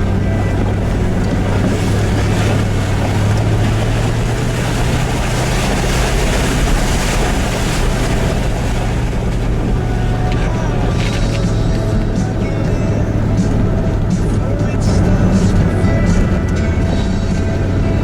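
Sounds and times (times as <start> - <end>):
broad rush of noise: 0.0 - 18.0
car engine droning: 0.0 - 18.0.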